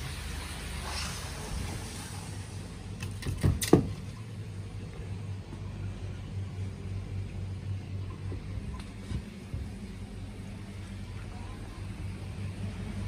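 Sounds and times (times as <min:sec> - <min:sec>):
pond pump humming: 0:00.0 - 0:13.0.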